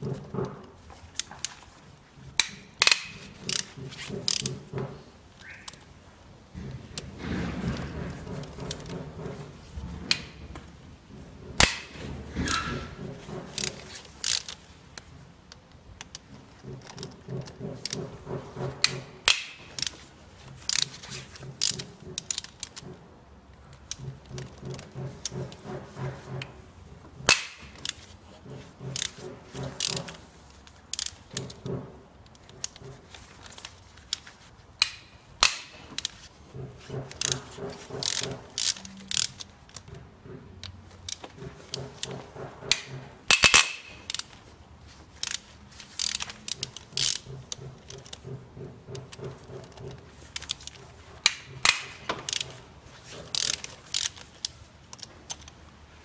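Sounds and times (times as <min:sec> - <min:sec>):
ratchet wrench clicking: 0:00.0 - 0:05.8, 0:11.5 - 0:23.0, 0:27.2 - 0:40.0, 0:40.6 - 0:55.6
bolts cracking loose: 0:00.0 - 0:56.0.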